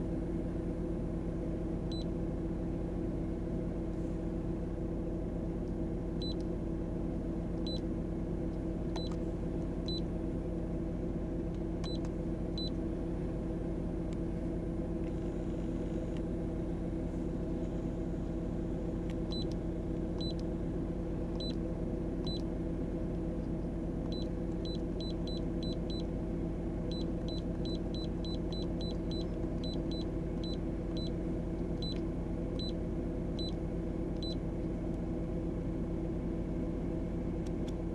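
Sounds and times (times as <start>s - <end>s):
low cabin hum: 0.0s - 37.9s.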